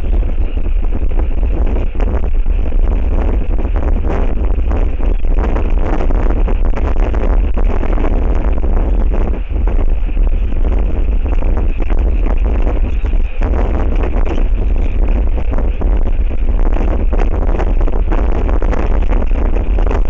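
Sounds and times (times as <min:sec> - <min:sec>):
wind buffeting a microphone: 0:00.0 - 0:20.0.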